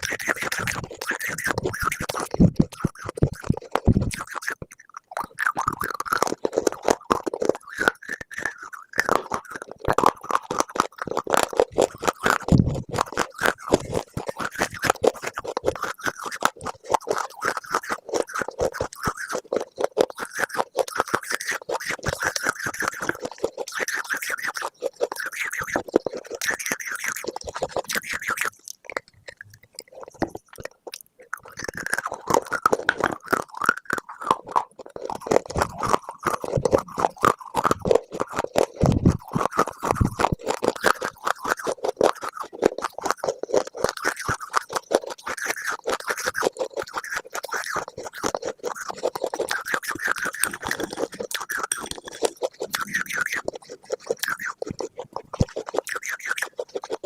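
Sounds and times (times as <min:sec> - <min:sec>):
brittle crunching: 0:00.0 - 0:57.0.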